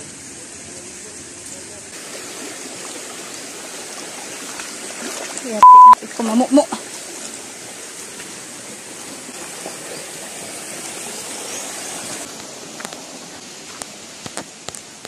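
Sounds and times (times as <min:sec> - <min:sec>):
rocky stream flowing: 0:01.9 - 0:15.0.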